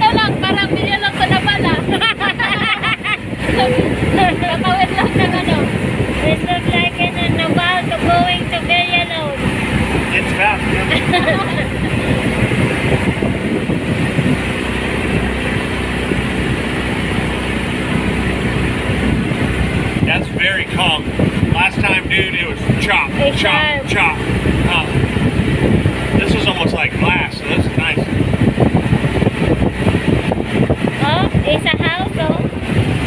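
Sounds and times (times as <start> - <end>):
boat engine running: 0.0 - 33.0
wind and water rushing: 0.0 - 33.0.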